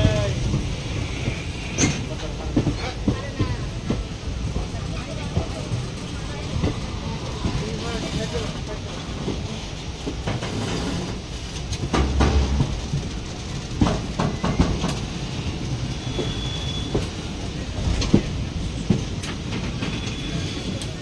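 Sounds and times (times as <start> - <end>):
train rumbling on track: 0.0 - 21.0
wheels clacking over rails: 0.0 - 21.0.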